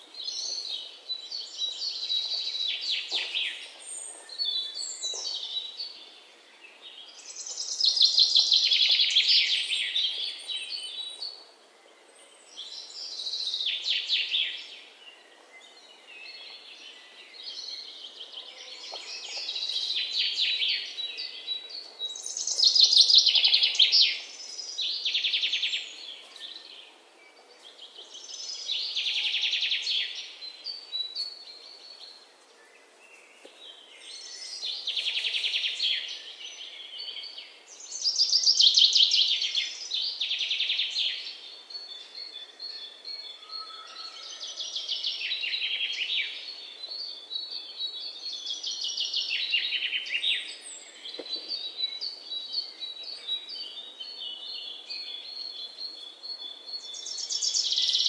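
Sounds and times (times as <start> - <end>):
songbird chirps and trills: 0.0 - 58.0.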